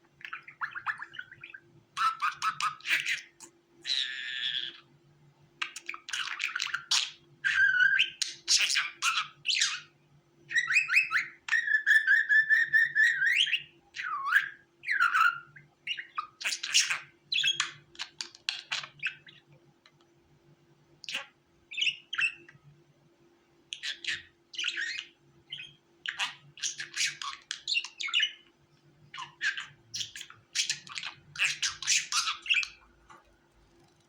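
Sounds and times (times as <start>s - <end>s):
budgerigars chirping and warbling: 0.2s - 4.9s, 5.6s - 9.9s, 10.5s - 19.5s, 21.1s - 22.6s, 23.7s - 28.4s, 29.1s - 32.9s.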